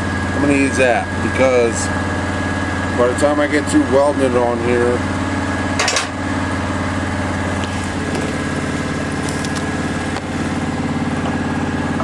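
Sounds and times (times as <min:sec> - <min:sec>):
welder engine idling: 0:00.0 - 0:12.0.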